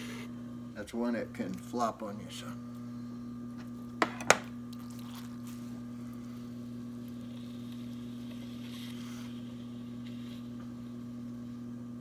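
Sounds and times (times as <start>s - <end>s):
potter's wheel humming: 0.0s - 12.0s.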